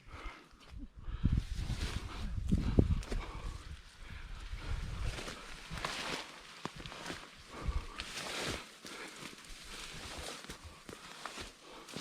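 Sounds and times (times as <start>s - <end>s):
footsteps on a trail: 1.4s - 12.0s.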